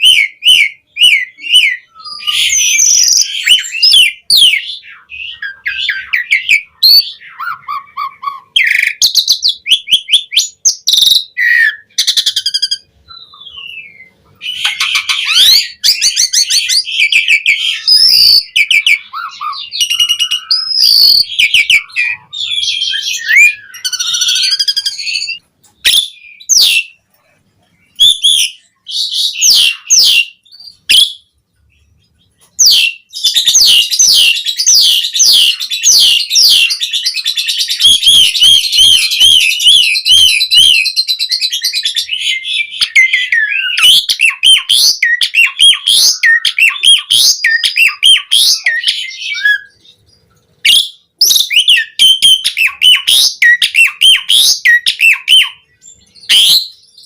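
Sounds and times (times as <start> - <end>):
starling singing: 0.0 - 57.0.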